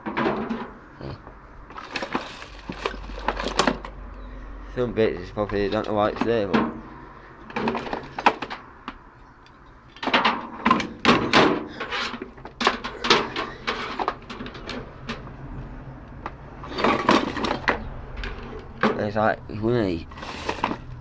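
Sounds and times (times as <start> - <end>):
scrap metal clattering: 0.0 - 21.0.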